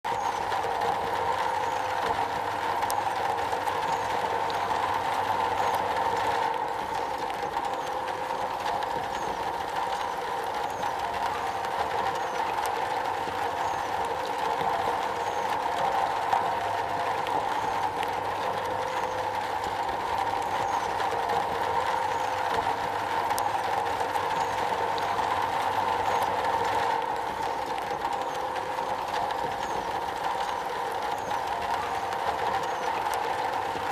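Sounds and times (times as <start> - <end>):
rain on a metal roof: 0.1 - 33.9.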